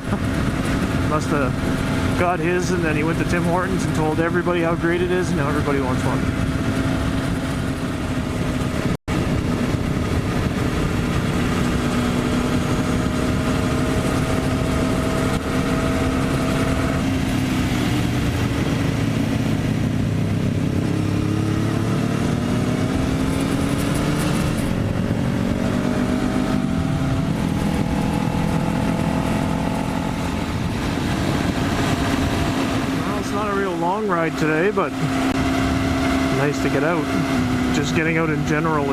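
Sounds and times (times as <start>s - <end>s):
heavy wind noise: 0.0s - 38.9s
motorcycle engine running: 0.0s - 38.9s.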